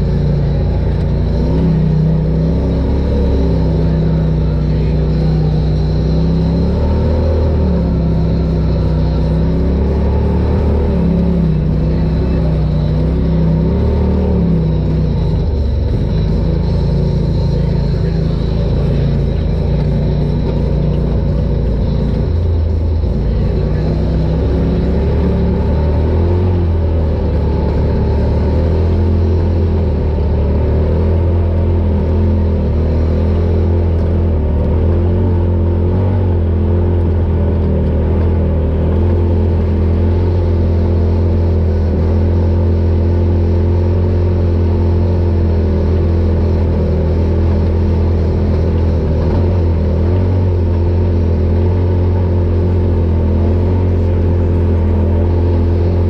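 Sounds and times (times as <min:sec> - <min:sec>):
engine droning: 0:00.0 - 0:56.0.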